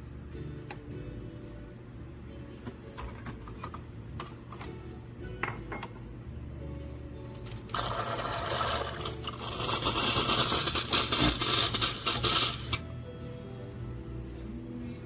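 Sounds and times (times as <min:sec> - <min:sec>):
background music with steady tones: 0:00.0 - 0:15.0.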